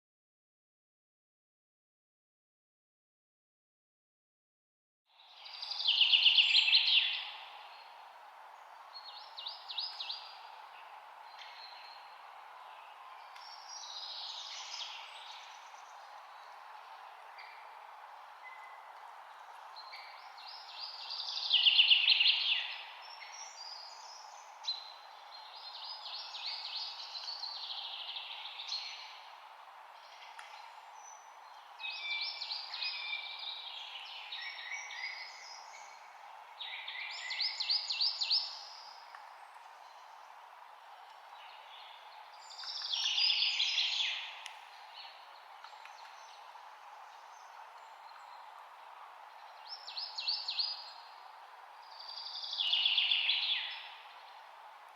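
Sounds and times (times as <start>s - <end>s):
steady background hiss: 5.2s - 54.9s.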